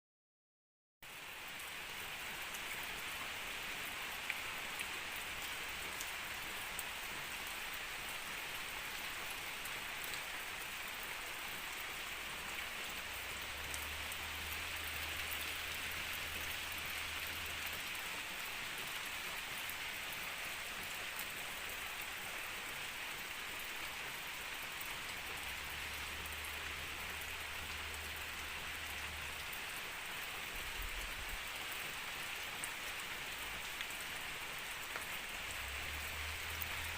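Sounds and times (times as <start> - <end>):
steady rainfall: 1.0 - 36.9.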